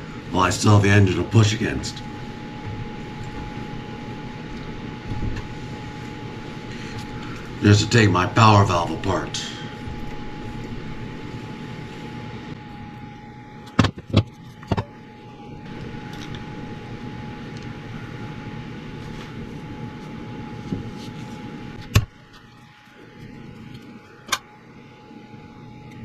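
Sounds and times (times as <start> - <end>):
faint high whine: 0.0 - 26.0
steady background hum: 0.0 - 26.0.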